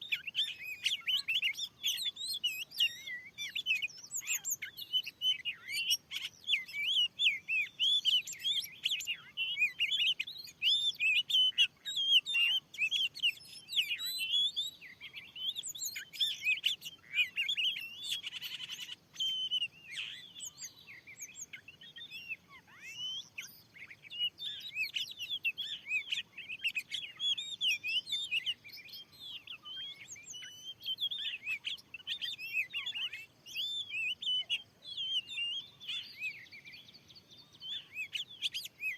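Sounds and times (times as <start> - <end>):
songbird chirping and whistling: 0.0 - 38.9.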